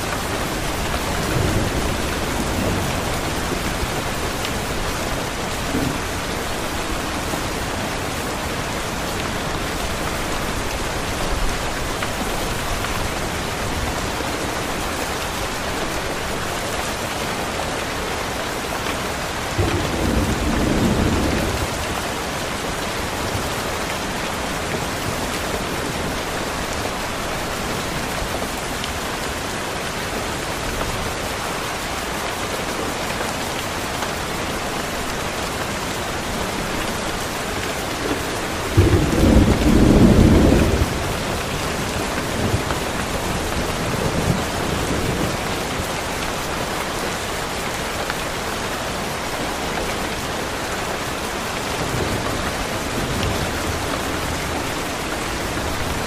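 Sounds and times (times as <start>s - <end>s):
dense rain hiss: 0.0s - 56.0s.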